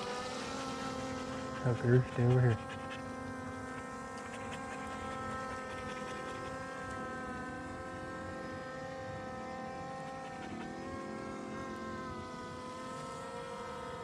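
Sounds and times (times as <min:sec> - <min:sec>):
drone propeller whine: 0:00.0 - 0:14.0.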